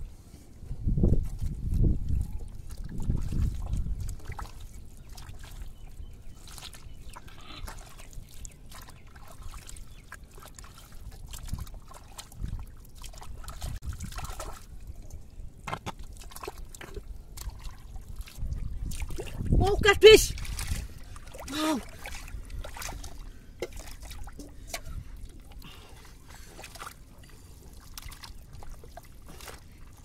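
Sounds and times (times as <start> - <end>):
hands squelching through wet mud: 1.1 - 19.6, 20.3 - 30.0.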